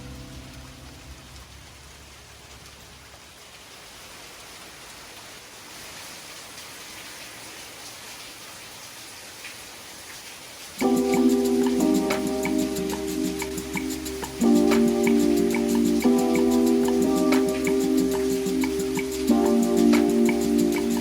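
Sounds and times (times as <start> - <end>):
rain hiss: 0.0 - 21.0
raindrops pattering: 0.0 - 21.0.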